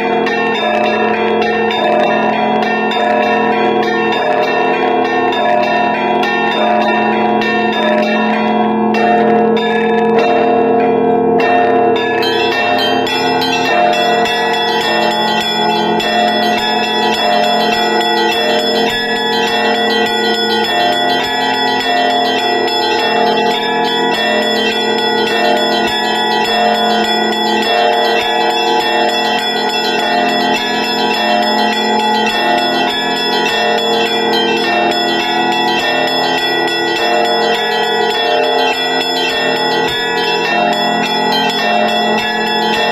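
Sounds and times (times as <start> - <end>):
church bells pealing: 0.0 - 42.9
deep bells: 0.0 - 42.9.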